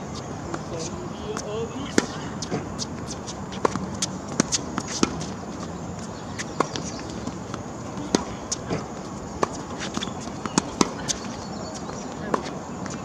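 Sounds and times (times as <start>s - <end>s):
tennis balls bouncing on hard court: 0.0s - 13.0s
tennis balls struck by rackets: 0.0s - 13.0s
shoe steps on court: 0.5s - 13.0s.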